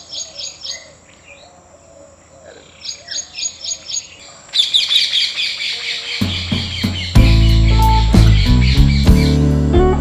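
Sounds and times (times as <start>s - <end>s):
bird chirping: 0.0s - 10.0s
chorus of many birds: 0.0s - 10.0s.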